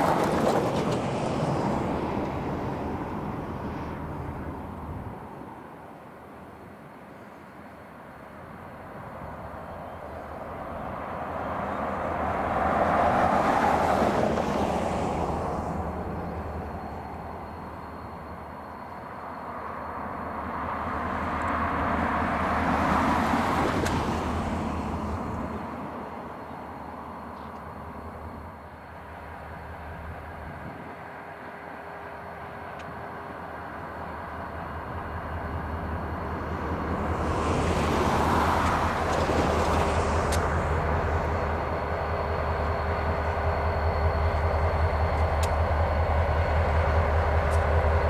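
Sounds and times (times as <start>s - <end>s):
diesel locomotive engine drone: 0.0s - 48.0s.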